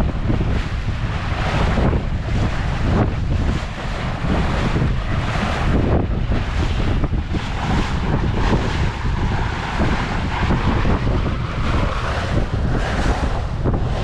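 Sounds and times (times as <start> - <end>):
water rushing past hull: 0.0 - 14.0
wind buffeting microphone: 0.0 - 14.0.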